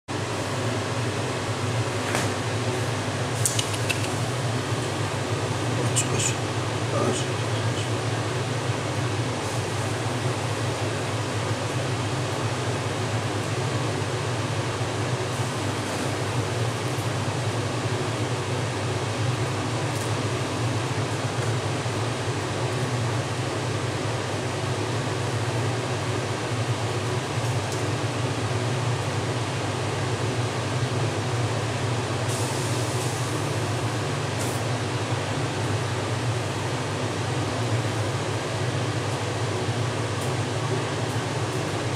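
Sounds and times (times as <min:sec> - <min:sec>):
fan hum with hiss: 0:00.1 - 0:41.9.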